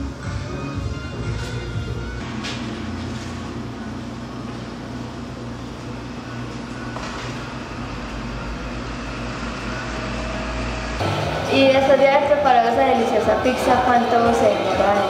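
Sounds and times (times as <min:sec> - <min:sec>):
extractor fan rumbling: 0:00.0 - 0:15.0.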